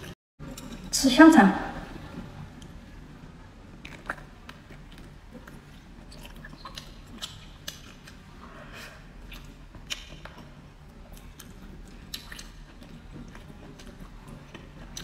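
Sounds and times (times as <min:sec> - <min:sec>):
person chewing food: 0:02.1 - 0:15.0.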